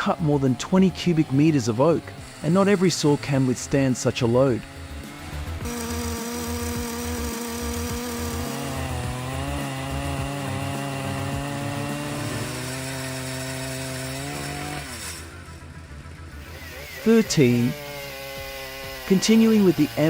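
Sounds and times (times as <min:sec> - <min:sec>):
chainsaw cutting log: 0:00.0 - 0:20.0.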